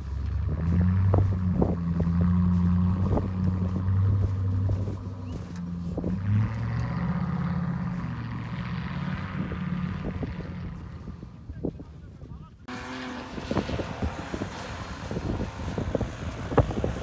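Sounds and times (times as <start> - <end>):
suv engine droning under load: 0.0 - 17.0.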